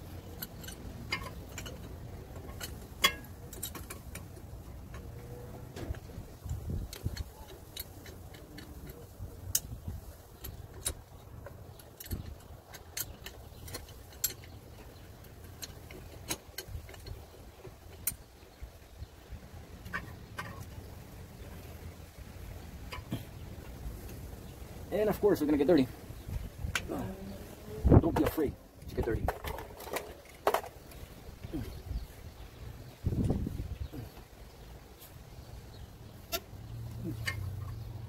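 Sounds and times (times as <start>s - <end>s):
metallic clicks and rattling: 0.0s - 27.0s, 28.0s - 32.1s, 32.9s - 38.0s.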